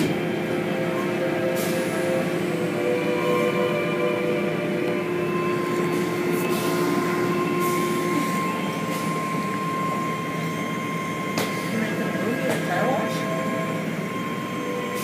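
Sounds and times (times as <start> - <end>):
car wash machinery drone: 0.0 - 15.0
constant mechanical whine: 0.0 - 15.0.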